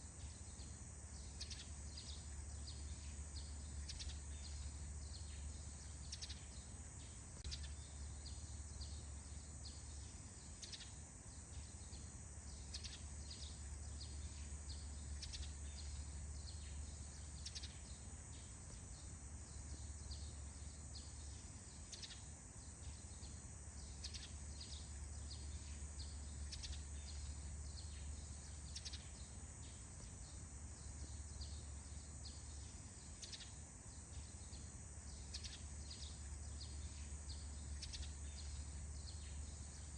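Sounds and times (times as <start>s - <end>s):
high insect-like hiss: 0.0s - 39.9s.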